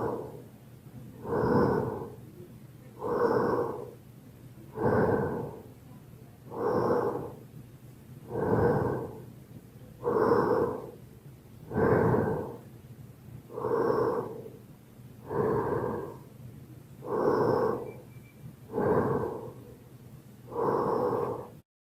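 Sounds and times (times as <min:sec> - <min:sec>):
heavy breathing: 0:00.0 - 0:00.6, 0:01.2 - 0:07.6, 0:08.2 - 0:12.8, 0:13.4 - 0:16.4, 0:17.0 - 0:21.6.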